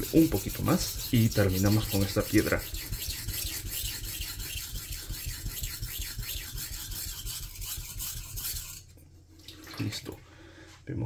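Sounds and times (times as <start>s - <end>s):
knife scraping on whetstone: 0.0s - 8.9s.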